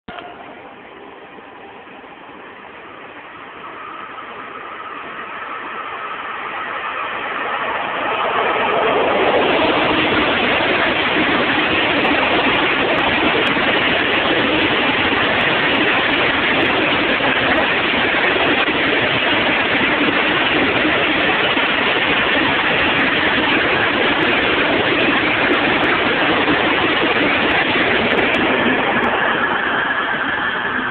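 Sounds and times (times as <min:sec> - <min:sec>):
freight train passing: 0:00.1 - 0:30.9.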